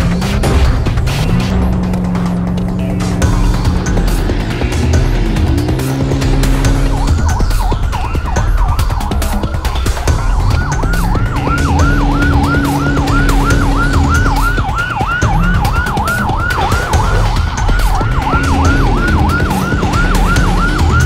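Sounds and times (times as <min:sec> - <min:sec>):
vehicle engine running: 0:00.0 - 0:21.0
police siren yelp: 0:02.5 - 0:21.0.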